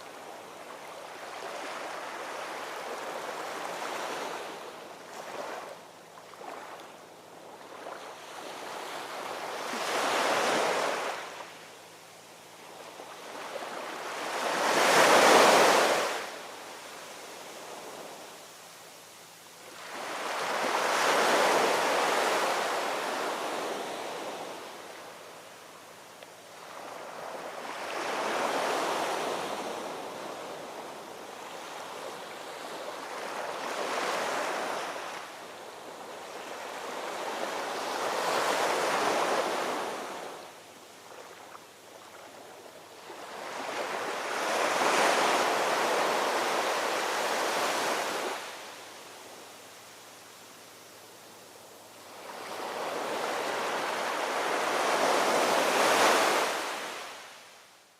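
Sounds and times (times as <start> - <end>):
ocean waves breaking on shore: 0.0 - 11.6, 12.6 - 18.4, 19.7 - 25.7, 26.5 - 49.5, 51.7 - 57.6.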